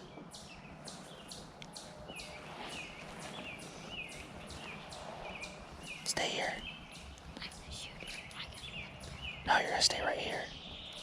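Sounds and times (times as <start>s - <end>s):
bird chirping: 0.0s - 11.0s
steady outdoor hiss: 0.0s - 11.0s.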